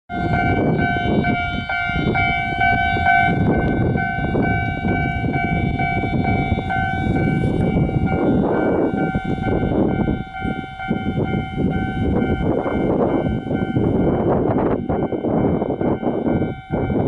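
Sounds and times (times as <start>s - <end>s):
level-crossing warning bell: 0.1s - 17.0s
train rumbling past: 0.1s - 17.0s.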